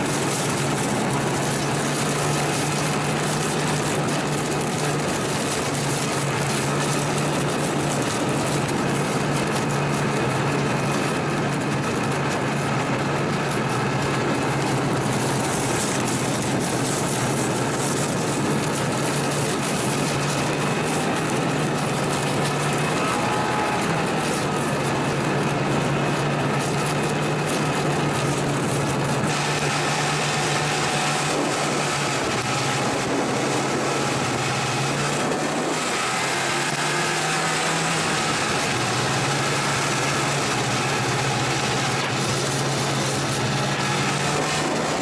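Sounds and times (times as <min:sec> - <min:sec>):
snowmobile engine droning: 0:00.0 - 0:45.0
track and wind rushing: 0:00.0 - 0:45.0.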